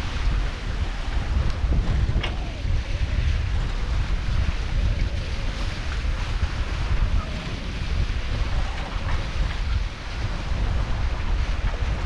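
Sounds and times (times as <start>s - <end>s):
water rushing along hulls: 0.0s - 12.0s
wind buffeting microphone: 0.0s - 12.0s.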